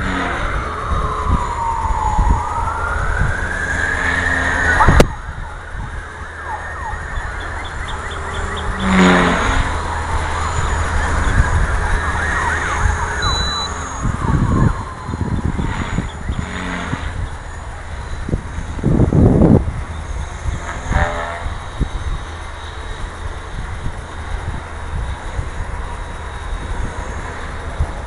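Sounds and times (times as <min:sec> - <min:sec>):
model airplane motor whine: 0:00.0 - 0:28.0
wind buffeting microphone: 0:00.0 - 0:28.0.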